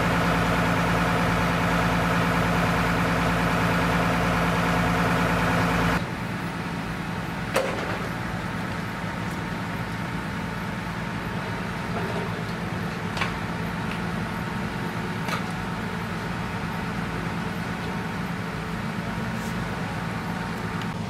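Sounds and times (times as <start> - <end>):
fire truck engine droning: 0.0 - 21.0.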